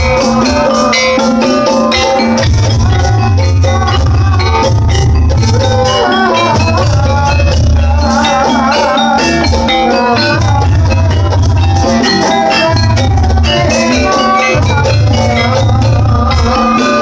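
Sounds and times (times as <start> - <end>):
pulsing drums: 0.0 - 17.0
ringing metallophones: 0.0 - 17.0
wavering melodic line: 0.0 - 17.0.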